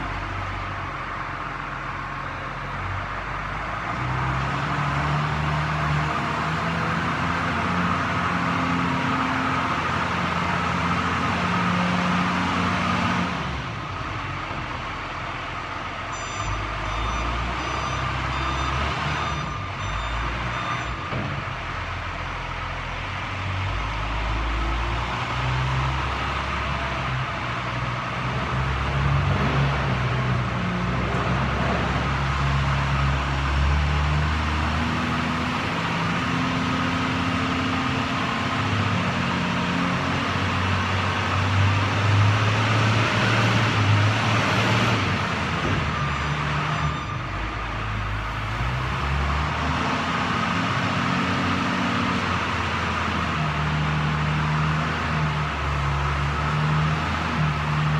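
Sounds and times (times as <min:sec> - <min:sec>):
wheel loader diesel engine: 0:00.0 - 0:57.9.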